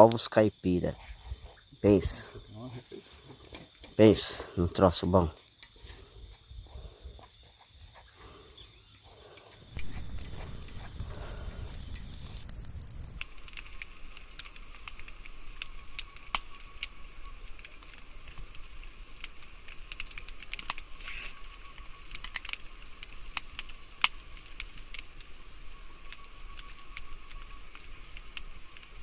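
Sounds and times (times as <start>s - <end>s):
fire crackles and pops: 0.0s - 29.0s
food sizzling over campfire: 0.0s - 29.0s.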